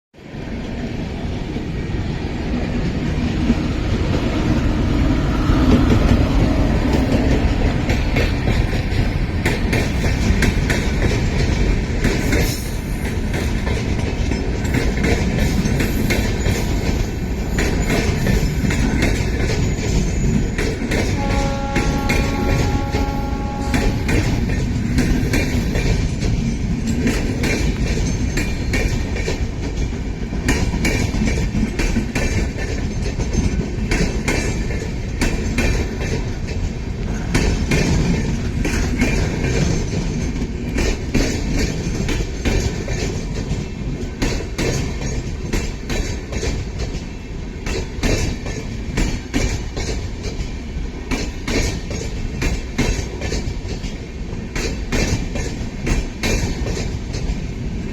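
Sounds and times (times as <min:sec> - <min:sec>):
train rumbling on track: 0:00.2 - 0:57.9
wheels clicking over rail joints: 0:05.7 - 0:57.9.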